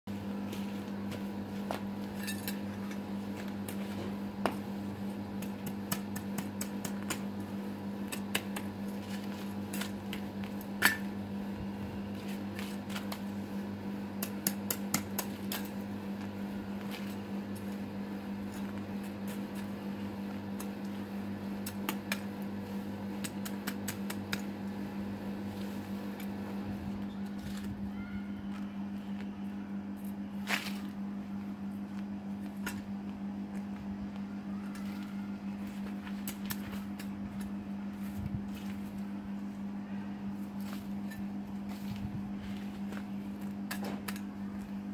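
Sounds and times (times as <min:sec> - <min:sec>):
steady low hum: 0:00.1 - 0:44.9.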